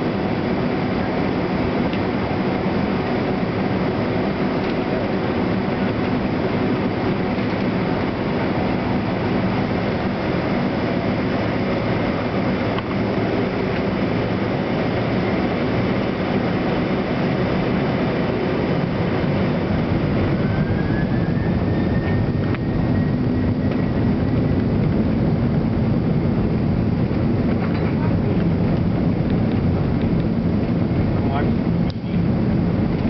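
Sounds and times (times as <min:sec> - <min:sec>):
jet engines rumbling in cabin: 0:00.0 - 0:33.0
thin rising whine: 0:00.0 - 0:33.0.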